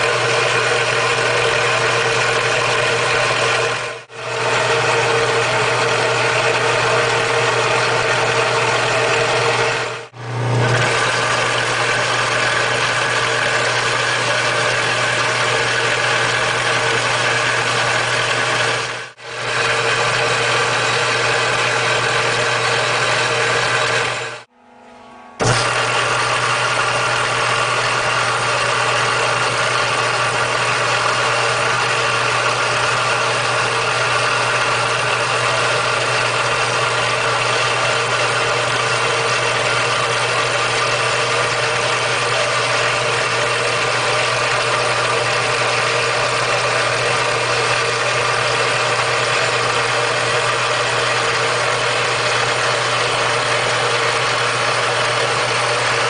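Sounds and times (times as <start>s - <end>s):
machine humming with steady tones: 0.0s - 56.0s.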